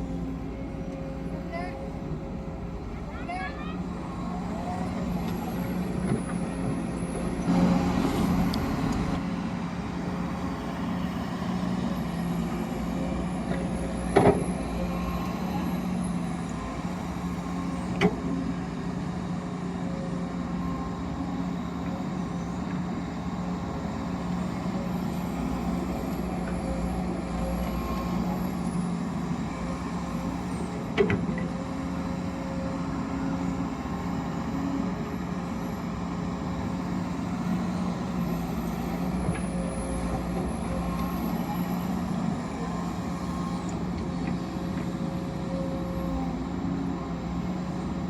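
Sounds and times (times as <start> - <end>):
heavy machinery hum and whine: 0.0 - 48.0.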